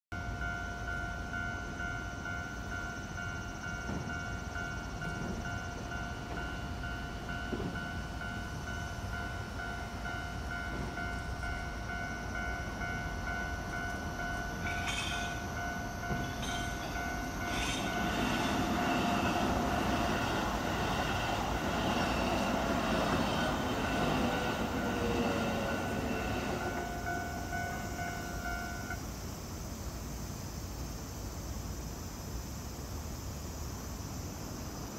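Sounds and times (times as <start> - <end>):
level crossing warning bell: 0.1 - 29.0
train passing with falling whine: 0.2 - 34.9.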